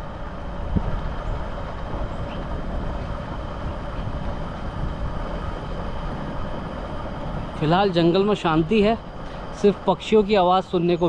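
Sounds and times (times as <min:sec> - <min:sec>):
crickets trilling: 0:01.2 - 0:11.0.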